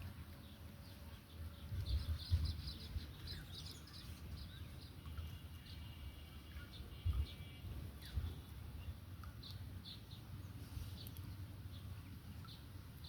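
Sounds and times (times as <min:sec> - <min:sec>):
small birds chirping: 0:00.4 - 0:12.7.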